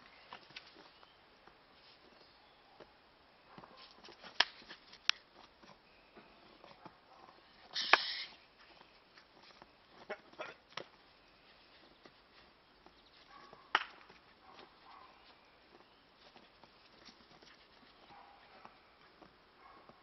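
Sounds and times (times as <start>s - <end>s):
footsteps crunching in snow: 3.5s - 20.0s.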